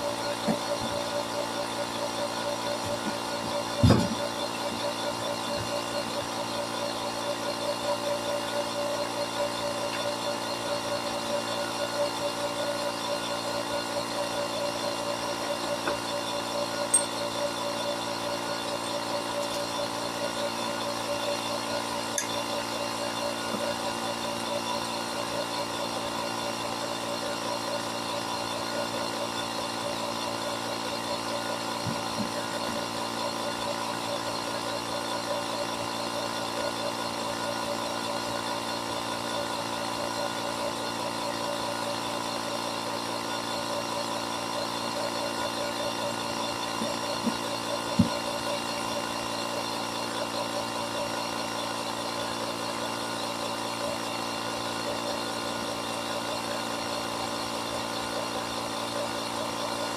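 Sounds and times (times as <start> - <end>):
air compressor running: 0.0 - 59.9.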